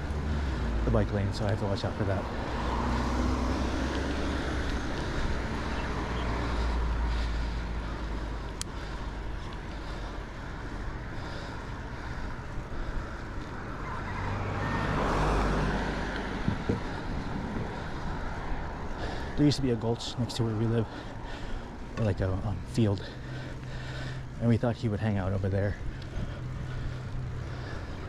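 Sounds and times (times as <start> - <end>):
motor vehicle passing: 0.0 - 28.0
wind and road rumble: 0.0 - 28.0.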